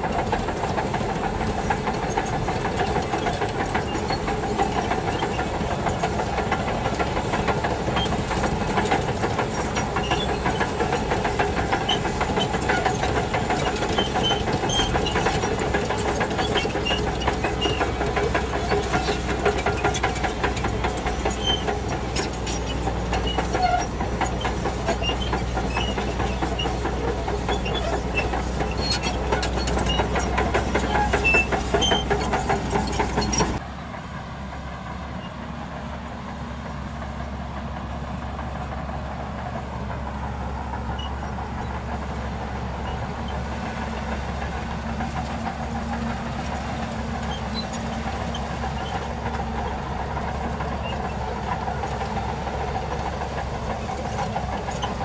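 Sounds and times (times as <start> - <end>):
steel tracks clattering: 0.0 - 33.6, 37.0 - 55.0
bulldozer diesel engine running: 0.0 - 55.0.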